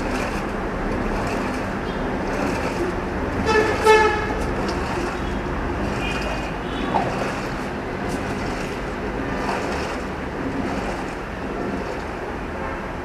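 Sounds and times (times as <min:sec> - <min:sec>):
washing machine water sloshing: 0:00.0 - 0:13.0.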